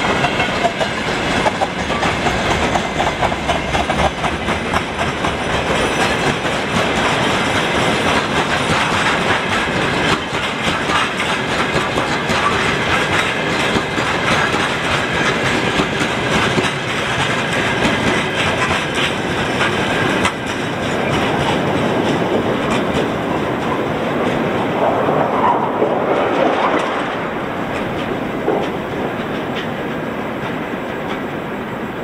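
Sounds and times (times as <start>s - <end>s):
train wheels clicking over rail joints: 0.0s - 32.0s.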